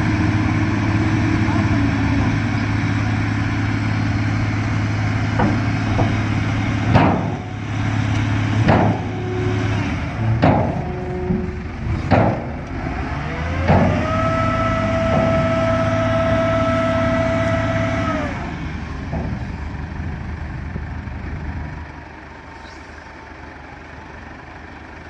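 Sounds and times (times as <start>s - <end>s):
heavy truck engine rumble: 0.0s - 25.0s.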